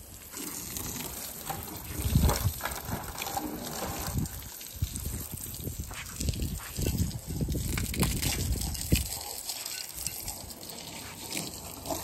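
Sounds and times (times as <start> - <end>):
water splashing on car: 0.0 - 12.0.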